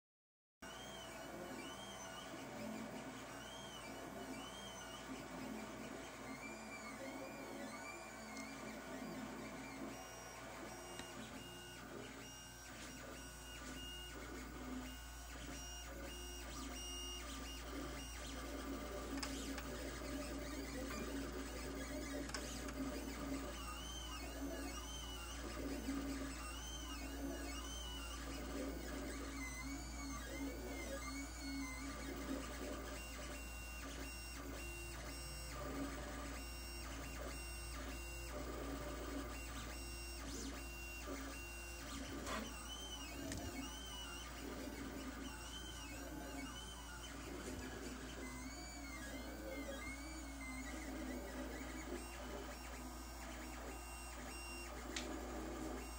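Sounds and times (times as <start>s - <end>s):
stepper motors whining and buzzing: 0.7s - 55.9s.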